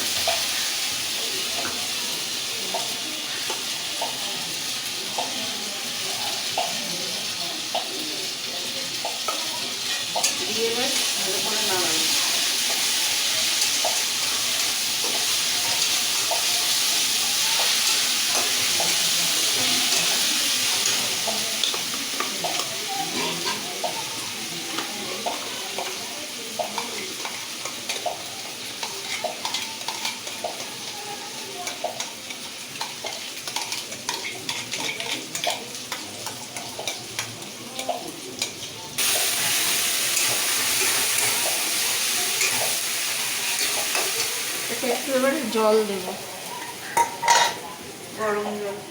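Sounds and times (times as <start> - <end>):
food frying in hot oil: 0.0 - 48.9.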